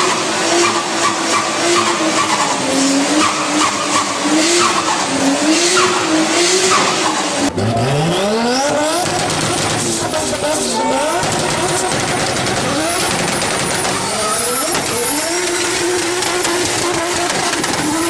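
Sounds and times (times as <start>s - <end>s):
car engine revving: 0.0s - 18.0s
car tyres squealing: 0.0s - 18.0s.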